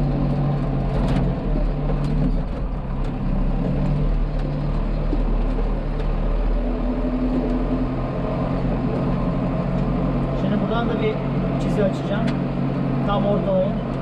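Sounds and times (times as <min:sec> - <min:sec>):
tractor engine under heavy load: 0:00.0 - 0:14.0.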